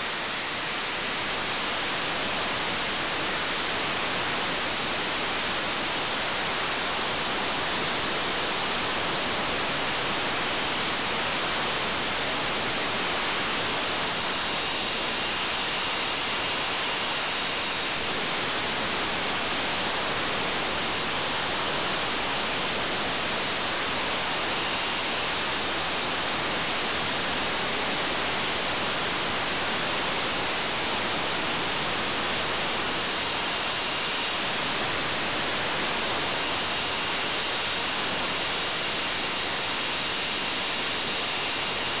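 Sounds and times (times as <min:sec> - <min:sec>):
radio static hiss: 0:00.0 - 0:42.0.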